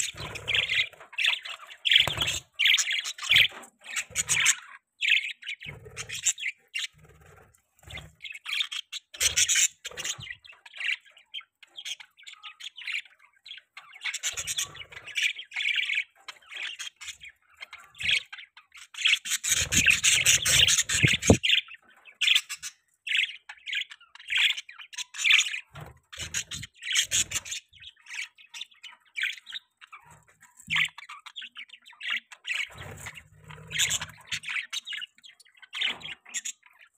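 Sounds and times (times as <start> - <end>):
budgerigars chirping and chattering: 0.0 - 36.9.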